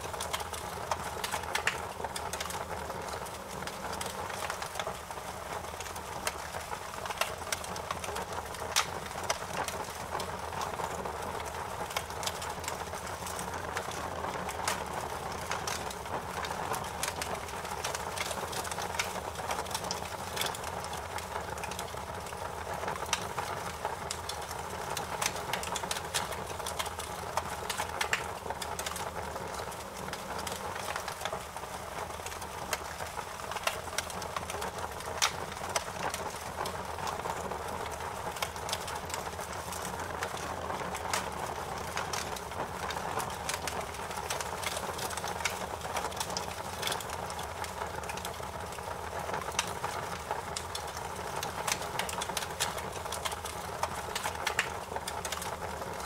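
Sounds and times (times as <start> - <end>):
fire popping and snapping: 0.0 - 56.0
wood fire crackling: 0.0 - 56.0.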